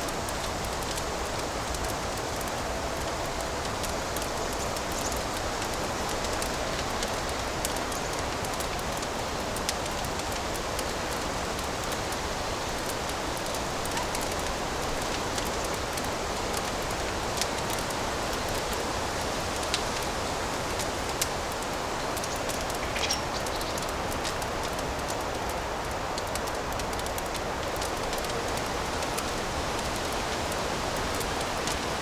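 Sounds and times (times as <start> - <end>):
fire hissing and crackling: 0.0 - 32.0.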